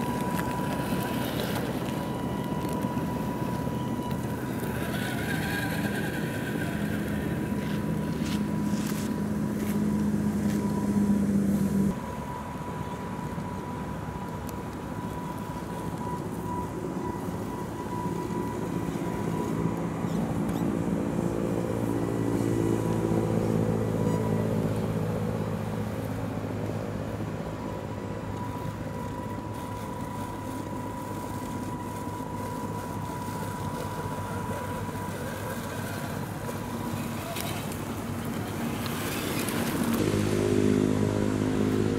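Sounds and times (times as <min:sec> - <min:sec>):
high-pitched whine: 0:00.0 - 0:41.9
motor drone: 0:00.0 - 0:41.9.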